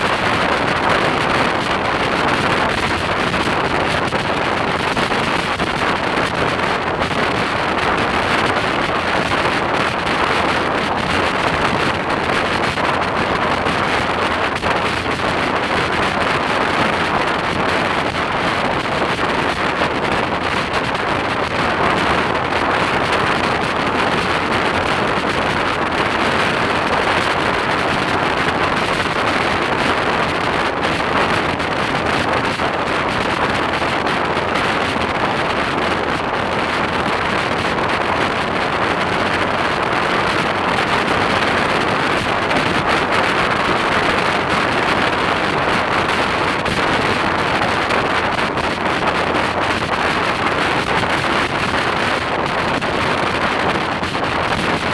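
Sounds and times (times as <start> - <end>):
motorcycle running: 0.0 - 54.9
wind rushing over microphone: 0.0 - 54.9.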